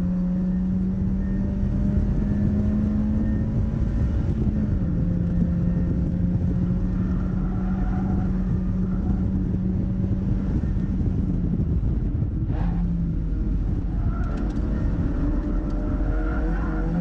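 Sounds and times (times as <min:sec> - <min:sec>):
car engine running: 0:00.0 - 0:17.0
road noise: 0:00.0 - 0:17.0.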